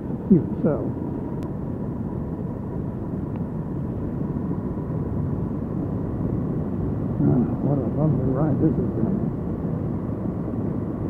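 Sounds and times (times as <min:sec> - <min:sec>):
faint thin whine: 0:00.0 - 0:11.0
wind rush: 0:00.0 - 0:11.0.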